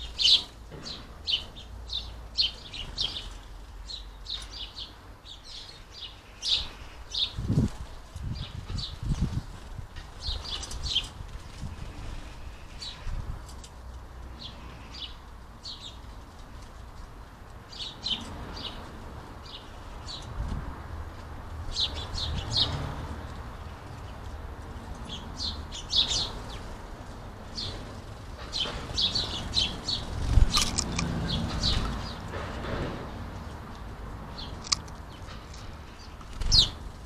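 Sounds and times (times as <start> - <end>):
sparrows chirping: 0.0 - 37.0.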